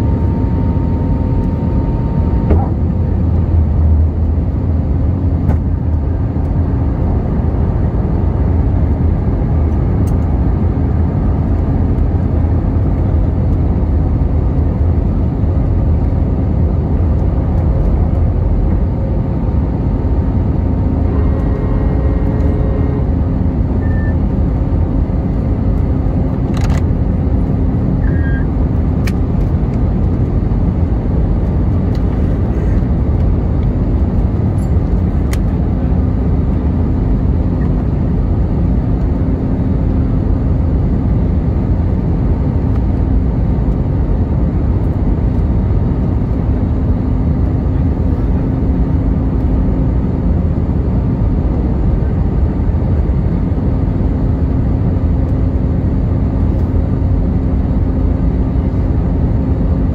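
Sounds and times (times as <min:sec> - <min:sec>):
jet engines and rushing airflow: 0:00.0 - 0:59.9.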